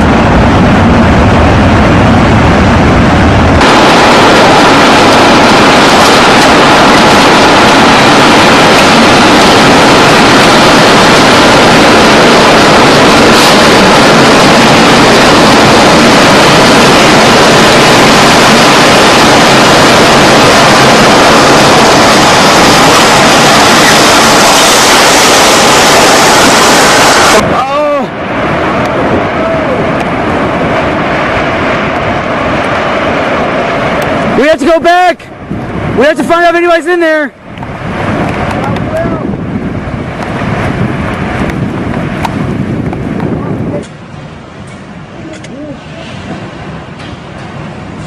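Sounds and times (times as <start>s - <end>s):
strong wind roaring on microphone: 0.0s - 48.0s.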